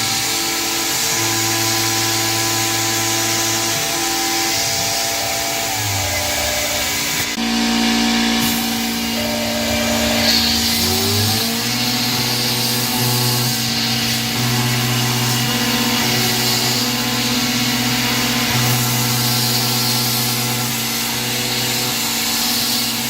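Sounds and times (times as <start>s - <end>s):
hiss of mist coolant: 0.0s - 23.0s
milling machine tones: 0.0s - 23.0s
rising whine of axis: 0.0s - 23.0s.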